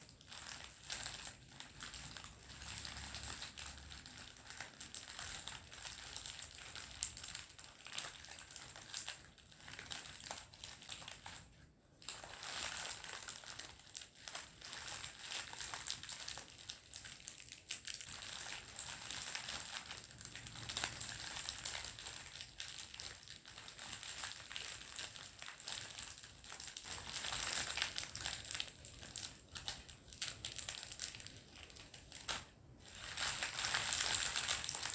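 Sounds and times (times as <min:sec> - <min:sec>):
candy wrapper crinkling: 0:00.0 - 0:34.9.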